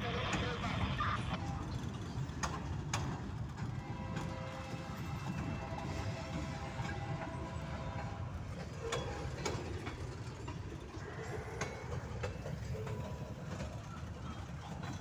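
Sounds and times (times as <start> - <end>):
freight train rumbling: 0.0 - 15.0
wheels clacking on rail joints: 0.0 - 15.0.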